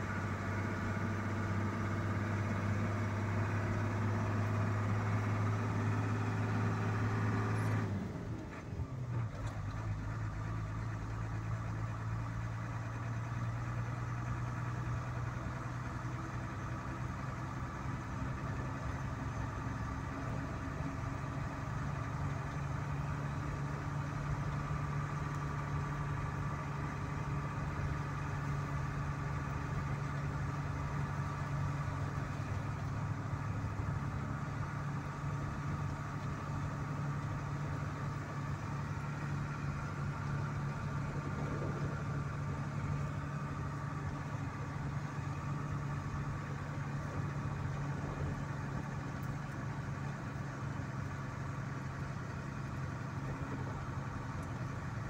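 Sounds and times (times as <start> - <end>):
road noise: 0.0 - 55.0
vehicle engine running: 0.0 - 55.0.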